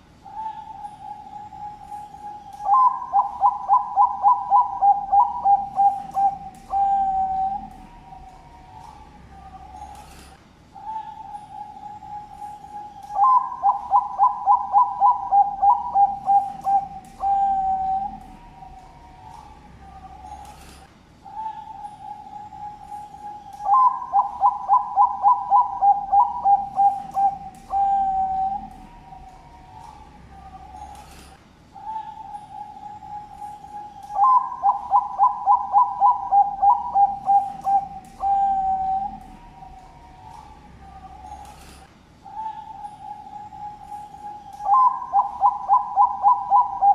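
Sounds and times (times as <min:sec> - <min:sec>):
dove cooing song: 0:00.0 - 0:46.9
faint steady tone: 0:00.0 - 0:46.9.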